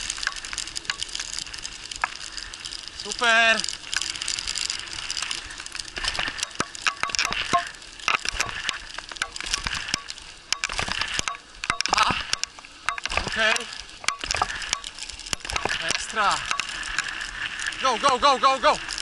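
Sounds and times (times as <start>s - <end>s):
bike rattling on dirt track: 0.0s - 19.0s
tyre crunch and hiss: 0.0s - 19.0s.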